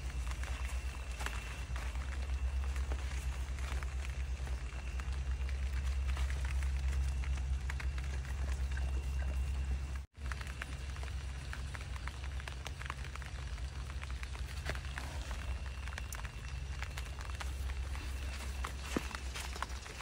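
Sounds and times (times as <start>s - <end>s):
low hum: 0.0s - 20.0s
rain falling: 0.0s - 20.0s.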